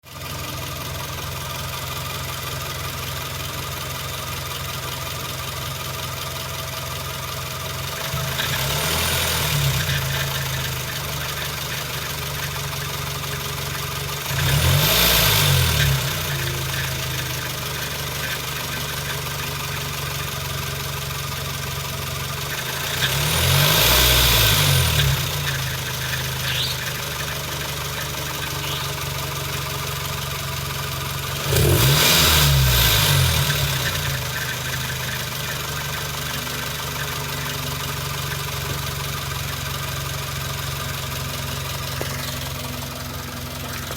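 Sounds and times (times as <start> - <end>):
car engine idling and revving: 0.0 - 43.9
intermittent engine noise: 0.2 - 43.9.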